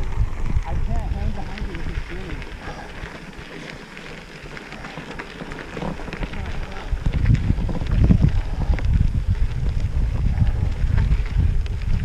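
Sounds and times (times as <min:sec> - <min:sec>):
bicycle tyres crunching gravel: 0:00.0 - 0:12.0
wind rumble on microphone: 0:00.0 - 0:12.0.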